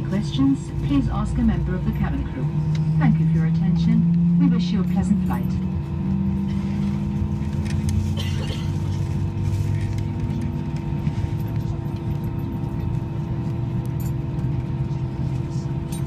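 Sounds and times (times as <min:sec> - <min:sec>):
aircraft cabin drone: 0:00.0 - 0:16.0
steady whining tone: 0:00.0 - 0:16.0.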